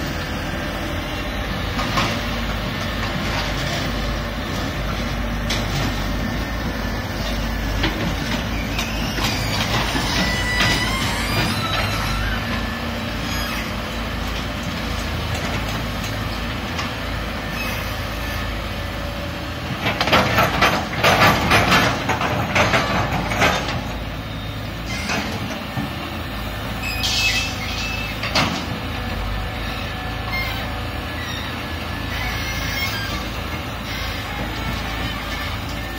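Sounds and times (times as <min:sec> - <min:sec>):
excavator clanking and scraping: 0:00.0 - 0:35.9
excavator diesel engine running: 0:00.0 - 0:35.9.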